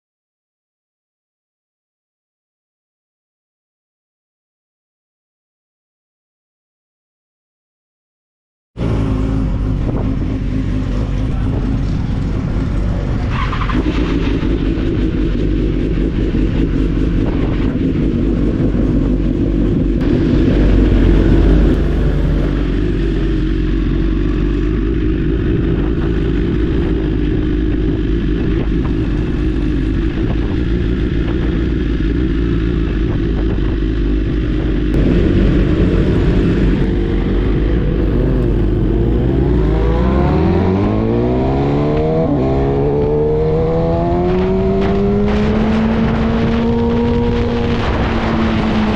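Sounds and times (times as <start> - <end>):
motorcycle engine revving: 8.8 - 48.9.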